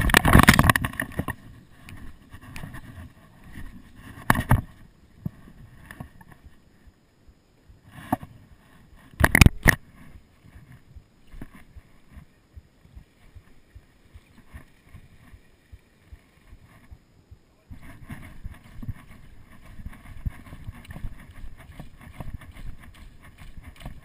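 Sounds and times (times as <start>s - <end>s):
faint ticks and rustles: 0.0s - 24.0s.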